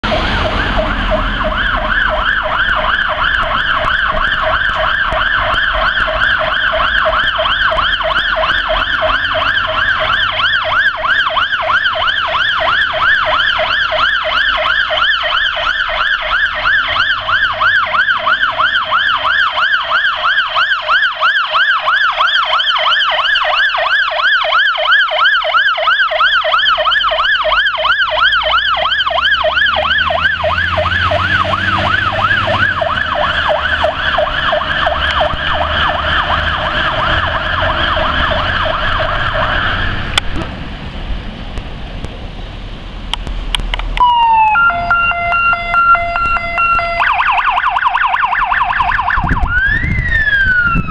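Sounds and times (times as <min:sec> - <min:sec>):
fire engine siren warbling: 0:00.0 - 0:50.9.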